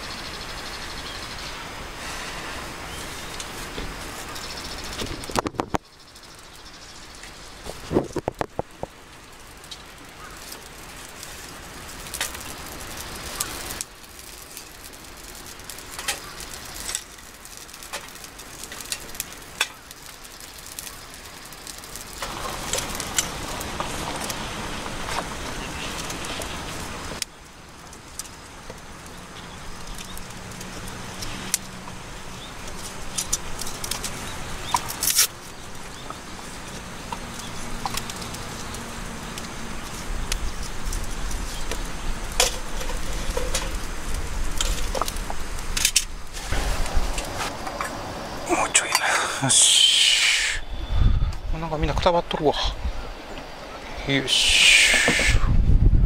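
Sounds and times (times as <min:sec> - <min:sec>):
steady rushing noise: 0:00.0 - 0:56.0
wood fire crackling: 0:00.0 - 0:56.0
sharp pops from fire: 0:02.0 - 0:51.4.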